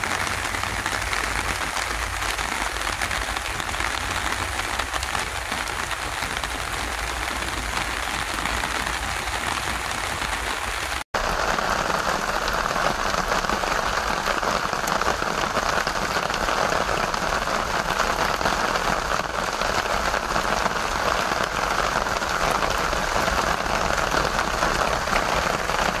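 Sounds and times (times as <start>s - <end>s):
raindrops splashing into metal wheelbarrow: 0.0s - 26.0s
steady rain falling: 0.0s - 26.0s.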